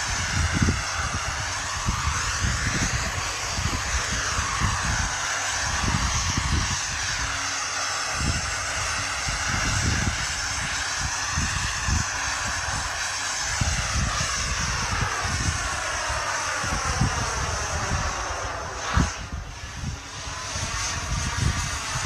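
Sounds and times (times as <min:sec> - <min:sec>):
aircraft engine rushing: 0:00.0 - 0:22.0
gusty low rumbling: 0:00.0 - 0:22.0.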